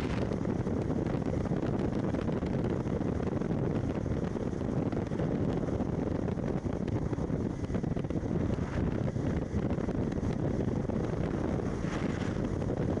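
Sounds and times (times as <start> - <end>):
motorcycle running: 0.0 - 13.0
wind buffeting microphone: 0.0 - 13.0.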